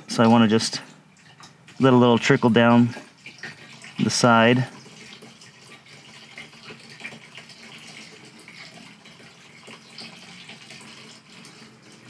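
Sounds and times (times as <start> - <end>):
diesel fuel trickling and splashing: 0.0 - 12.0.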